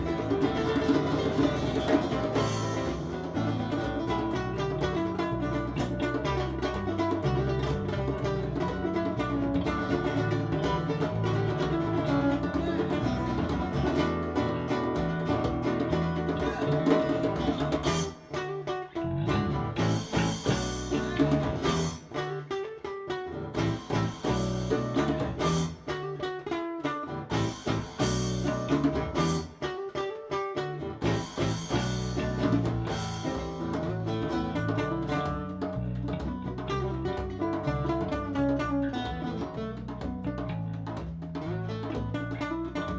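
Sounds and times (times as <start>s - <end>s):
bass: 0.0s - 22.3s, 23.2s - 26.0s, 27.0s - 29.6s, 30.8s - 42.9s
percussion: 0.0s - 42.9s
plucked acoustic guitar: 0.0s - 42.9s.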